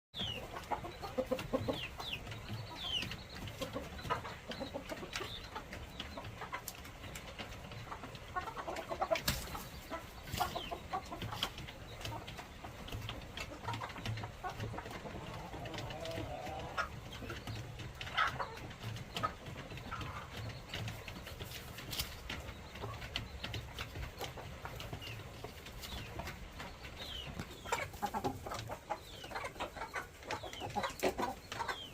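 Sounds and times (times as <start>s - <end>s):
chickens clucking: 0.2s - 31.9s.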